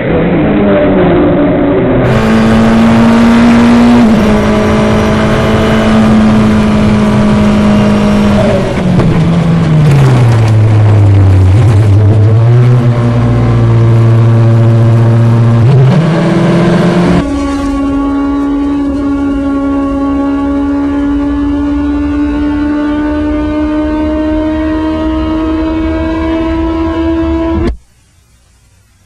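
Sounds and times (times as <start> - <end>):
racing car engine: 0.0 - 27.8.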